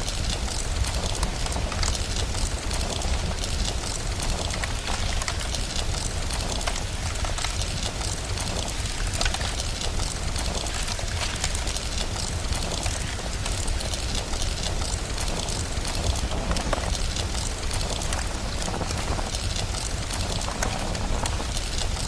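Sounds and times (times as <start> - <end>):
rain hiss: 0.0 - 22.0.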